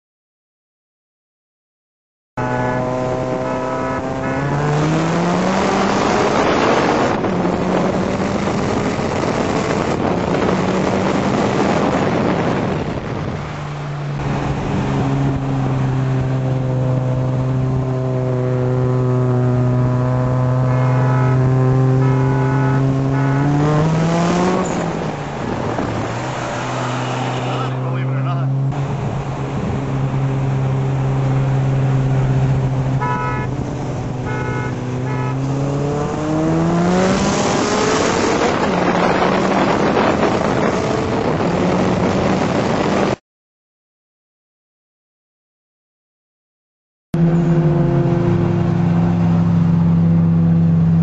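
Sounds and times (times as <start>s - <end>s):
car engine at full throttle: 2.4s - 43.2s, 47.2s - 51.0s
wind and road rush: 2.4s - 43.2s, 47.2s - 51.0s.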